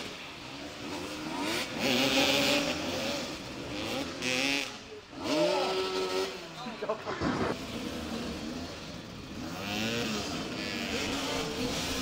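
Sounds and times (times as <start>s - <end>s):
motorcycles revving: 0.0s - 12.0s.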